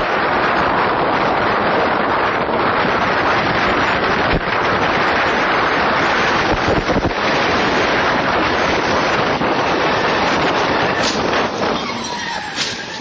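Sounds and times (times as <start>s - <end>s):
road noise: 0.0s - 13.0s
wind rushing on microphone: 0.0s - 13.0s.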